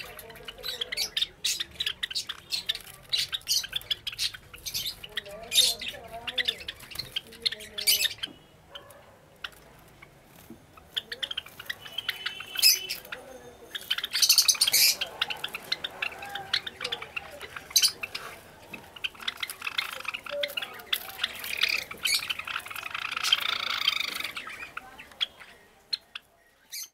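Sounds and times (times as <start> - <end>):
sparrows chirping: 0.0 - 26.9.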